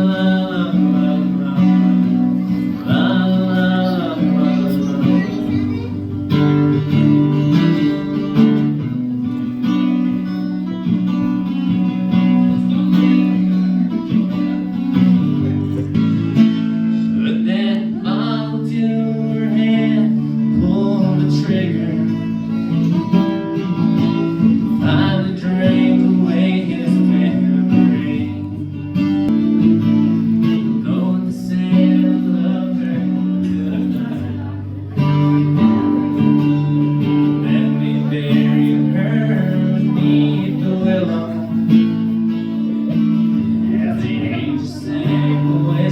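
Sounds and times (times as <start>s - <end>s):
live band playing slow song: 0.0s - 45.9s.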